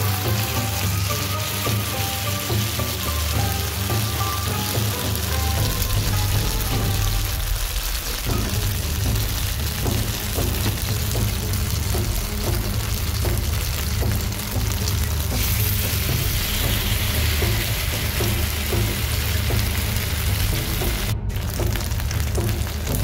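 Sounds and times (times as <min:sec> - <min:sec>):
background music with steady beat: 0:00.0 - 0:23.0
chicken sizzling on grill pan: 0:00.0 - 0:23.0.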